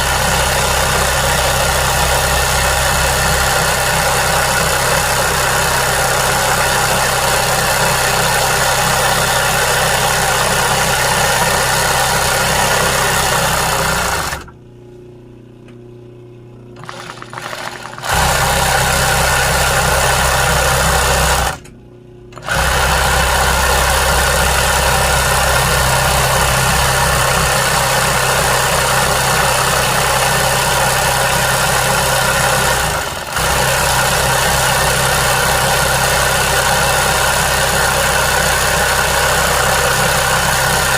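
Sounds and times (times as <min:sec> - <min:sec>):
sewing machine stitching: 0:00.0 - 0:14.5, 0:16.8 - 0:21.7, 0:22.4 - 0:40.9.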